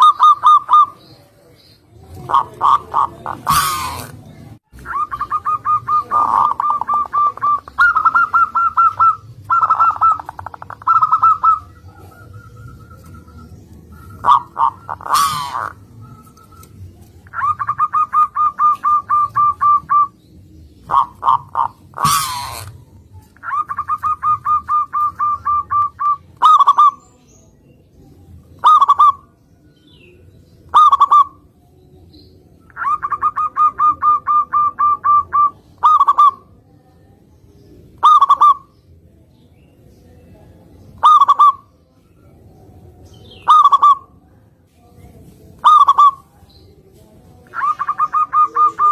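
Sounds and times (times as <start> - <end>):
dove calling: 0.0 - 27.2, 28.4 - 31.6, 32.6 - 36.7, 37.8 - 39.0, 40.8 - 44.3, 45.5 - 46.8, 47.4 - 48.9.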